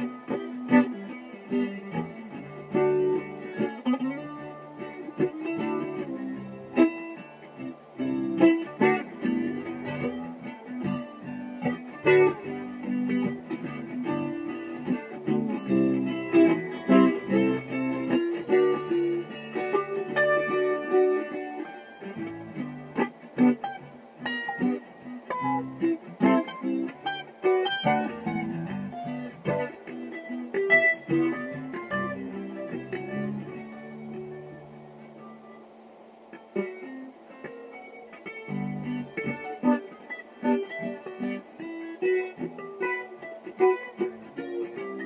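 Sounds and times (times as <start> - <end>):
solo guitar: 0.0 - 45.0.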